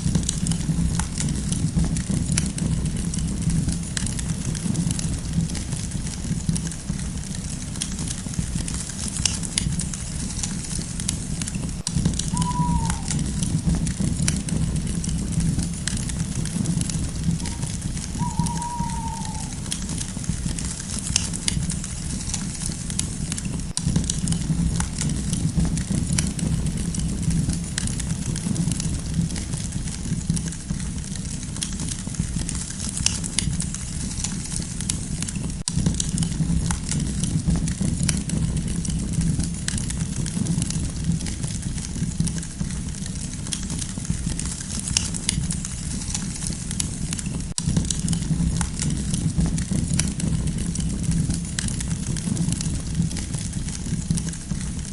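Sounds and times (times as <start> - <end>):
campfire crackling and popping: 0.0 - 54.9
low rush of flames: 0.0 - 54.9.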